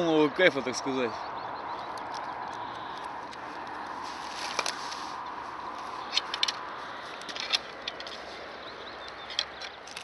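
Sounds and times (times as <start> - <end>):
highway traffic hum: 0.0 - 10.0.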